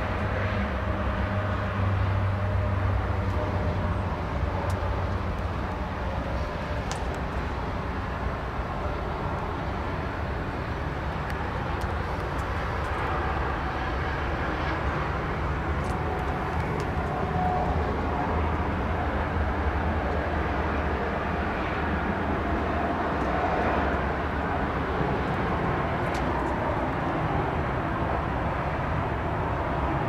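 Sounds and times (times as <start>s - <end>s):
engine humming steadily: 0.0s - 30.0s.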